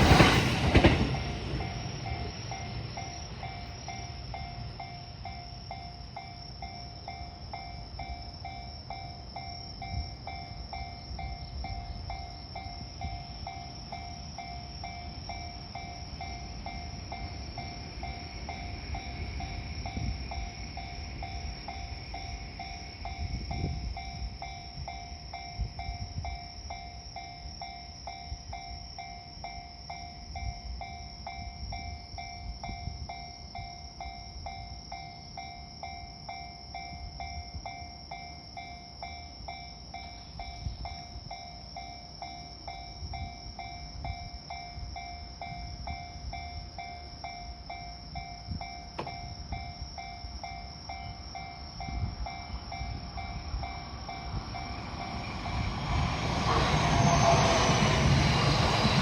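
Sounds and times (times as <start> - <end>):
level crossing warning bell: 0.0 - 59.0
low rumble of train: 0.0 - 59.0.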